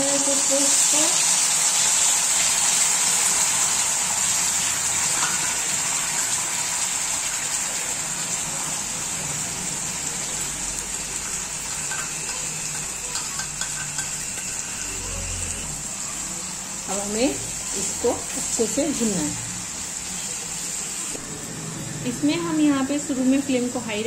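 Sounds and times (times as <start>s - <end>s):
paste sizzling in hot fat: 0.0s - 21.2s.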